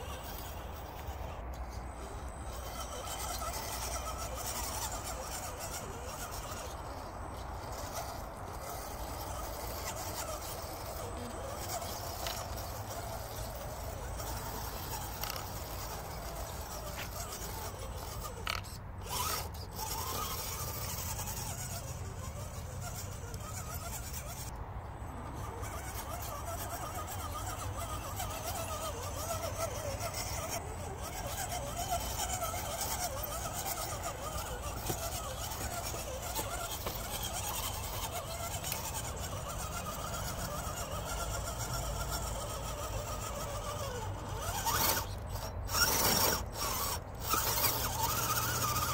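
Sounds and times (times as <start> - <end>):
electric motor and gears whining: 0.0 - 48.9.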